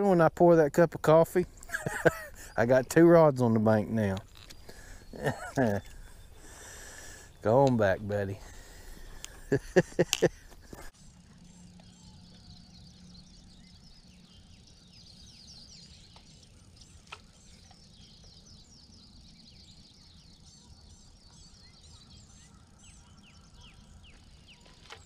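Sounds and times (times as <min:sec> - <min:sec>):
small birds chirping: 0:00.1 - 0:25.0.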